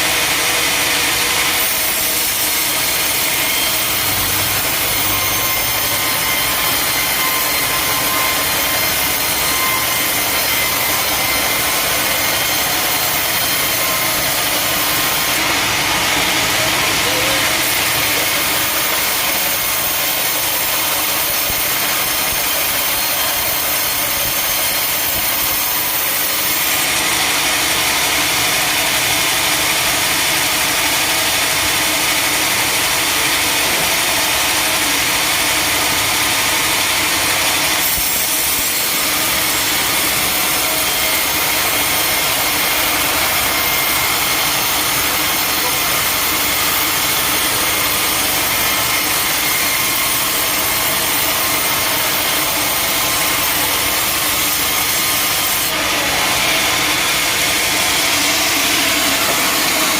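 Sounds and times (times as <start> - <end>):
sawmill saw cutting timber: 0.0 - 59.9.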